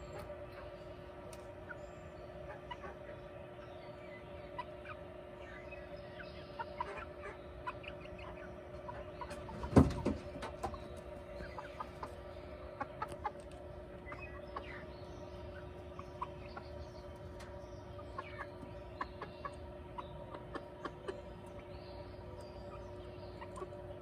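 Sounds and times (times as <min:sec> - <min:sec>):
hens clucking softly: 0:00.0 - 0:24.0
steady hum: 0:00.0 - 0:24.0.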